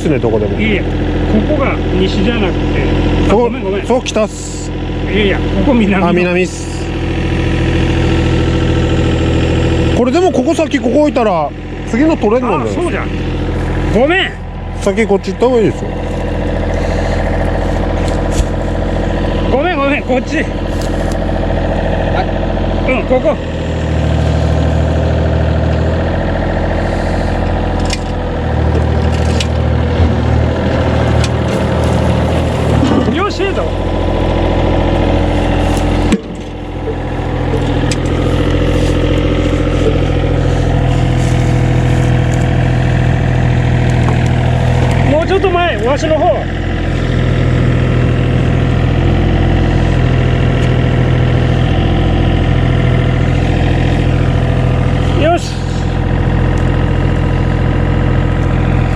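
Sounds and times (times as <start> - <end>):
heavy machine engine running: 0.0 - 58.9.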